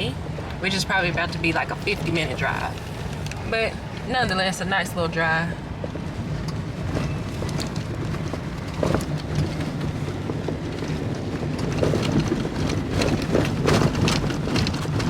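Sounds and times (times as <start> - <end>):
car tyres rumbling on snowy road: 0.0 - 15.0.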